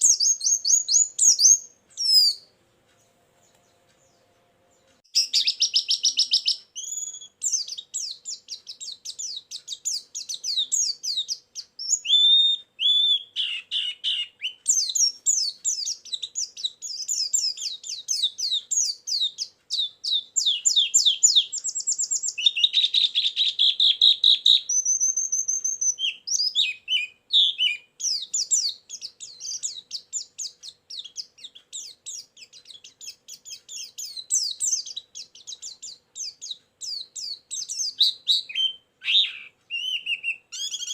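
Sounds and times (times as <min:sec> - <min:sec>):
bird chirping and whistling: 0:00.0 - 0:02.5, 0:05.1 - 0:40.9.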